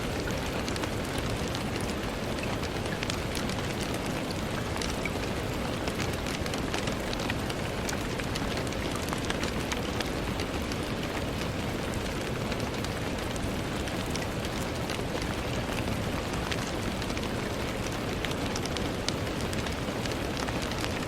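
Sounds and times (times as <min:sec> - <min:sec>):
rain ticking on window glass: 0:00.0 - 0:21.0.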